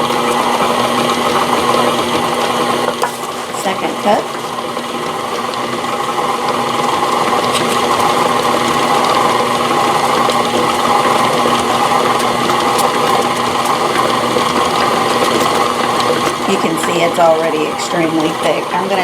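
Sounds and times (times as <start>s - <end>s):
electric mixer motor running: 0.0s - 19.0s.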